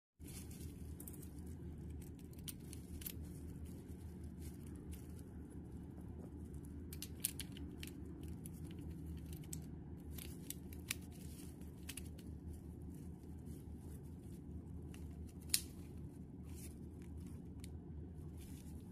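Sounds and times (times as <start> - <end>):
small clicks and rustles: 0.2 - 18.9
steady low hum: 0.2 - 18.9.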